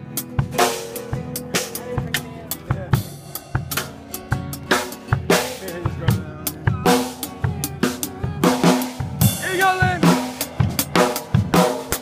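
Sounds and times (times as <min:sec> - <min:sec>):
drum kit playing a beat: 0:00.0 - 0:12.0
strummed guitar chords: 0:00.0 - 0:12.0.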